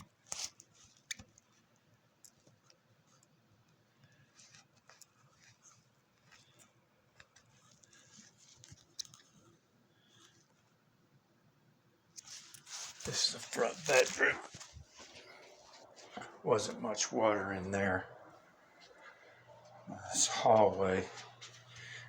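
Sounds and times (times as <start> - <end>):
faint clicks and rustles: 0.0 - 10.9, 12.1 - 16.4, 18.1 - 22.0.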